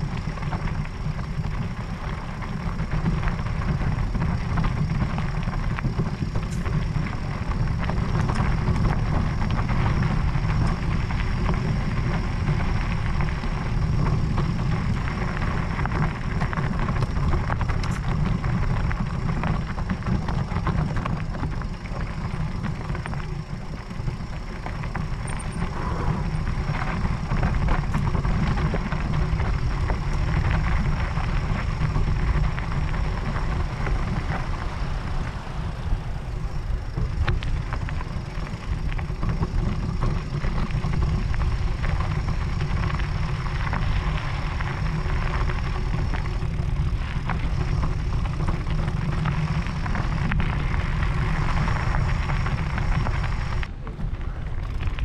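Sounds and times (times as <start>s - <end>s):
steady low rumble: 0.0s - 55.0s
tyres crunching over gravel: 0.0s - 55.0s.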